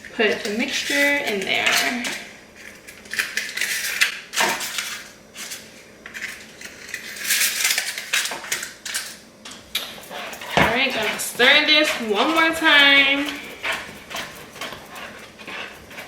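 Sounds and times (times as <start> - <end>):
metal baking things clinking: 0.0 - 2.3, 3.1 - 16.0.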